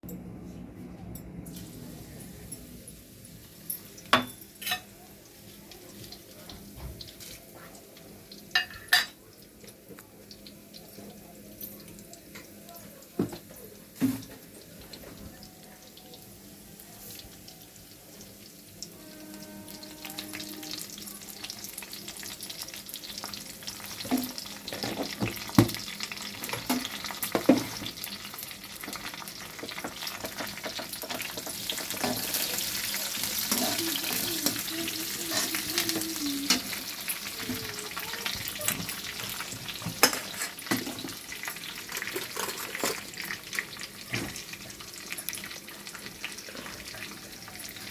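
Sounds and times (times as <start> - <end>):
food sizzling in hot oil: 1.5 - 47.9.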